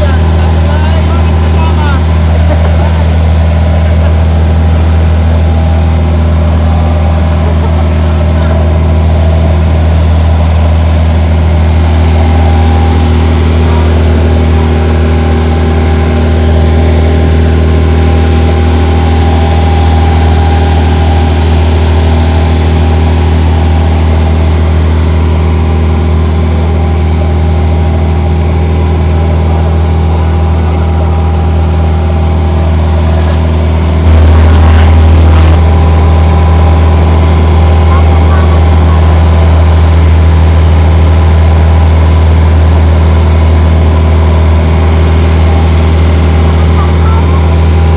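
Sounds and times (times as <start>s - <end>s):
ship engine droning: 0.0s - 47.9s.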